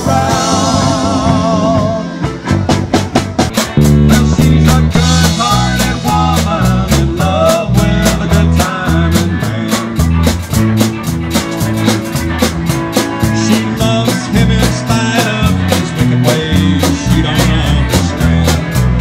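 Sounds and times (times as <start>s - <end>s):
drum kit beat: 0.0s - 19.0s
electric bass line: 0.0s - 19.0s
electric guitar lead lines: 0.0s - 19.0s.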